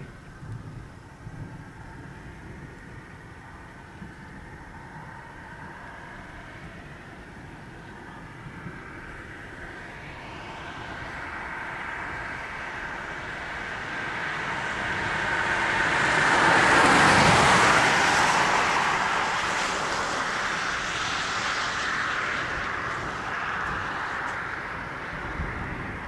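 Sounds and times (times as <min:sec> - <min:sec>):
car driving past: 0:04.5 - 0:26.0.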